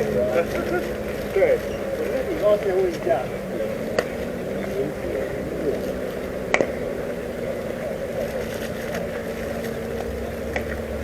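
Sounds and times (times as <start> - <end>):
faint distant voices: 0.0 - 11.0
outdoor background noise: 0.0 - 11.0.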